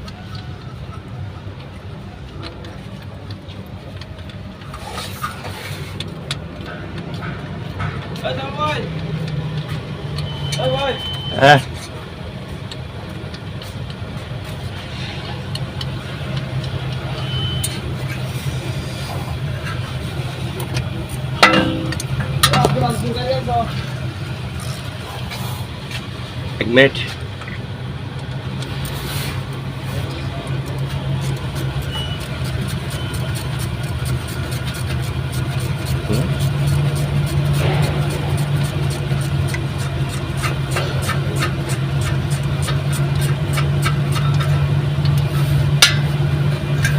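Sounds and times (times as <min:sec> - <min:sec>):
low engine-like hum: 0:00.0 - 0:46.9.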